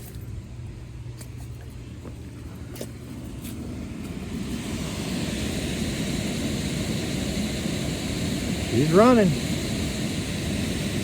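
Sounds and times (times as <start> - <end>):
blower rushing air: 1.8 - 11.0.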